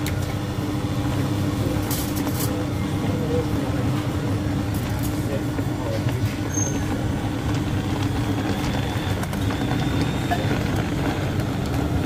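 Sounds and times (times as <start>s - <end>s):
shop machinery hum: 0.0s - 12.0s
street traffic hum: 0.0s - 12.0s.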